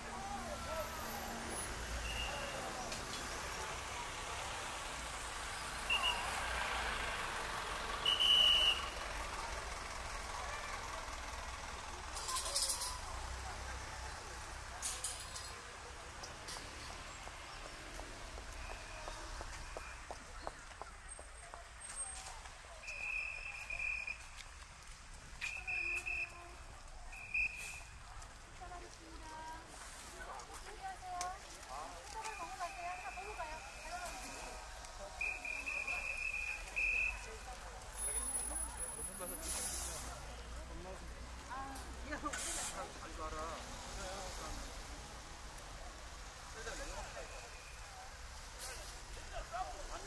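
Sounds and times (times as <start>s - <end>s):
outdoor noise: 0.0s - 50.0s.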